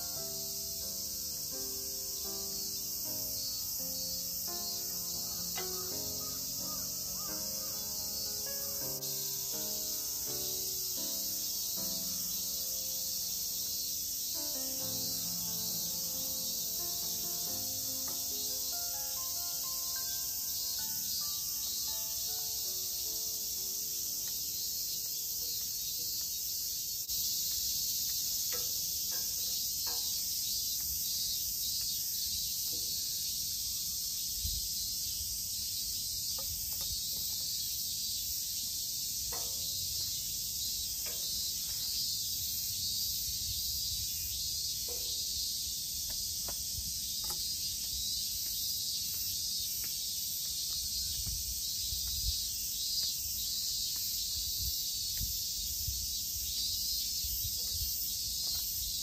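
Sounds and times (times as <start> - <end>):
high insect chorus: 0.0 - 59.0.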